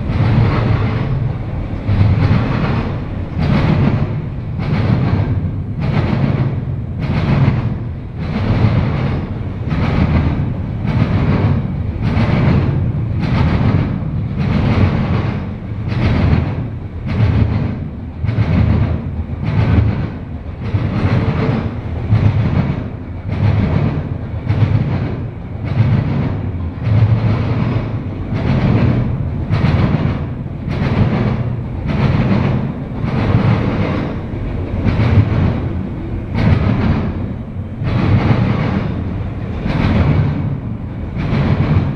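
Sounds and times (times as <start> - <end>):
freight train rolling past: 0.0 - 41.9
wheels clacking over rail joints: 0.0 - 41.9.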